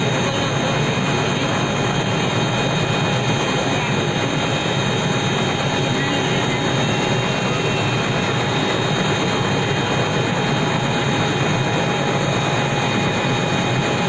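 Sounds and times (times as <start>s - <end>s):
helicopter drone: 0.0s - 14.0s
high steady whines: 0.0s - 14.0s.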